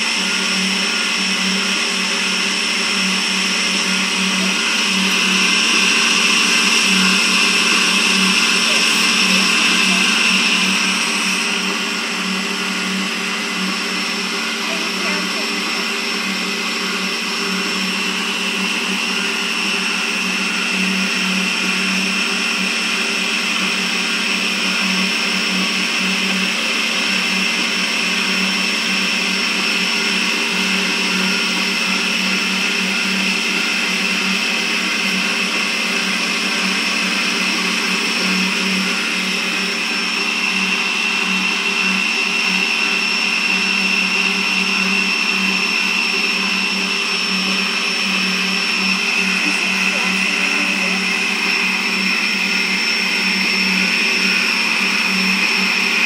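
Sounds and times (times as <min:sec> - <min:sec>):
stand mixer motor humming: 0:00.0 - 0:56.0.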